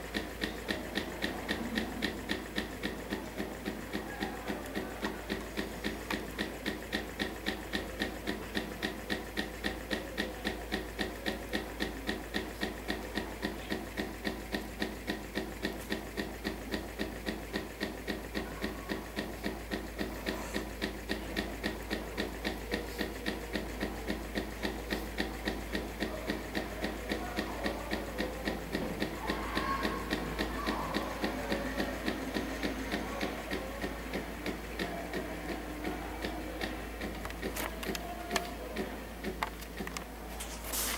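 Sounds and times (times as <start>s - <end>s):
small engine ticking evenly: 0.0s - 40.3s.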